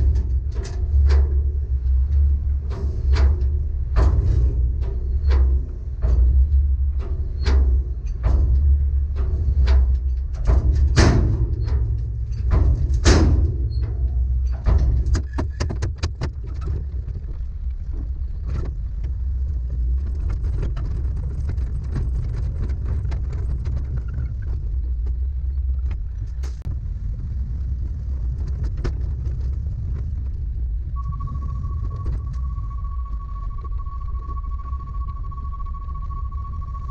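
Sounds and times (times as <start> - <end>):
knocks and rattles: 0.0 - 35.1
truck engine rumble: 0.0 - 36.9.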